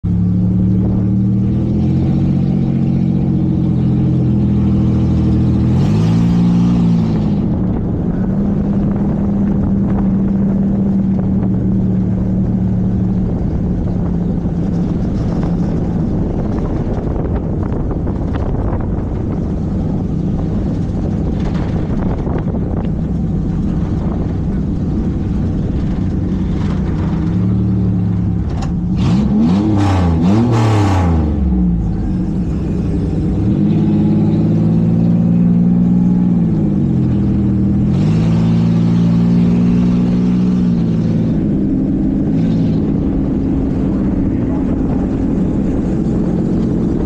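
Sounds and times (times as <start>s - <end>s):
race car engine revving: 0.1s - 47.0s.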